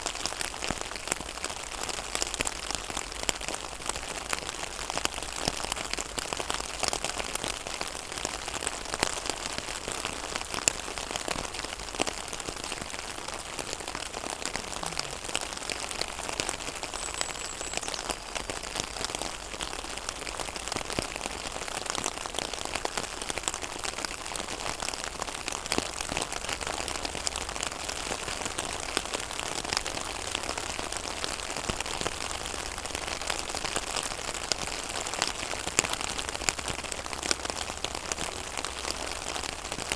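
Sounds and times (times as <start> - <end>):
rain pattering on a pond: 0.0 - 39.9.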